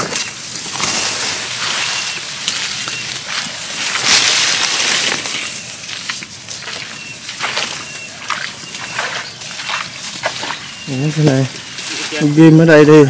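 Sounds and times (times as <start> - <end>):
footsteps sloshing through water: 0.0 - 12.8.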